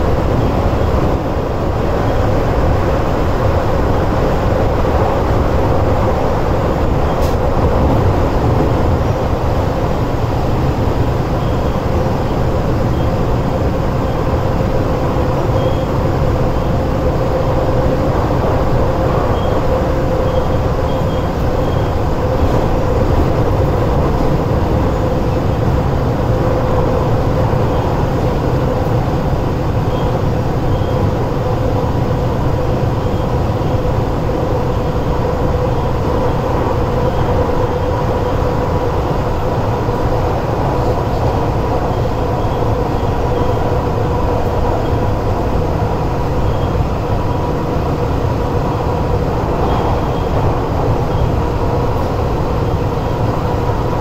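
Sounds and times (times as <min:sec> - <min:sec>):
electric train rumbling: 0:00.0 - 0:54.0.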